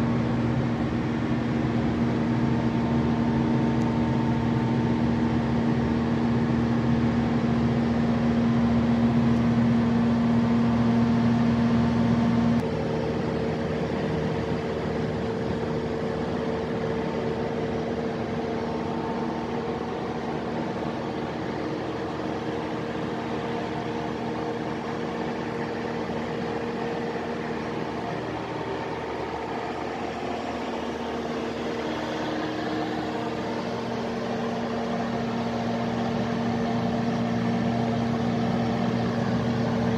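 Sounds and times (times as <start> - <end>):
generator diesel engine droning: 0.0 - 39.9.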